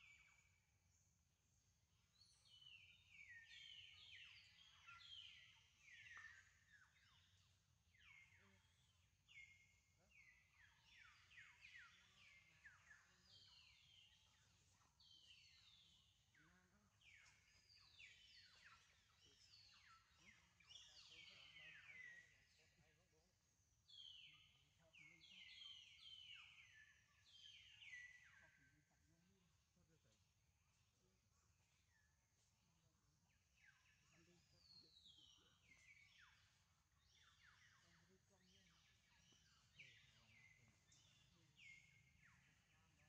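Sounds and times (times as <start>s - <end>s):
faint birds chirping: 0.0s - 43.0s.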